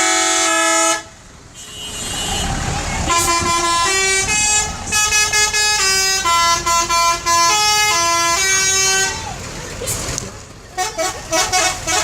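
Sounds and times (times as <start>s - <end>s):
musical bus horn playing tune: 0.0s - 9.3s, 10.8s - 12.0s.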